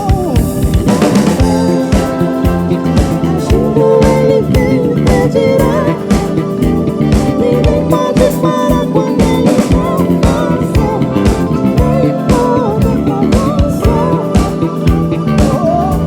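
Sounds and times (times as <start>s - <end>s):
bass: 0.0s - 16.0s
drum kit beat: 0.0s - 16.0s
keyboards: 0.0s - 16.0s
wavering lead melody: 0.0s - 16.0s.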